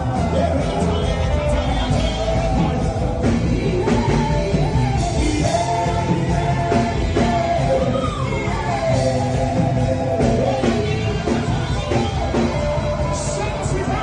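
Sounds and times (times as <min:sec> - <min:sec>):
band with steady drum beat: 0:00.0 - 0:14.0
voices singing worship music: 0:00.0 - 0:14.0.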